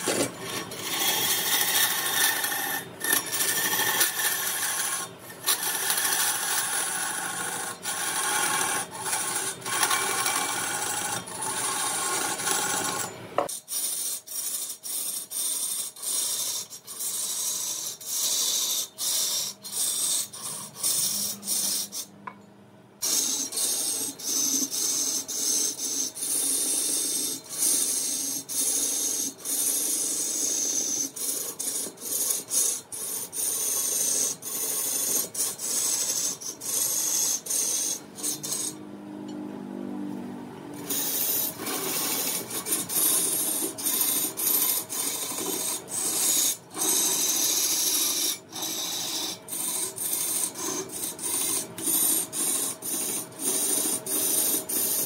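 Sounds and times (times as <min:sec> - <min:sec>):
hand tool scraping wood: 0:00.0 - 0:22.1, 0:23.0 - 0:38.8, 0:40.8 - 0:55.0.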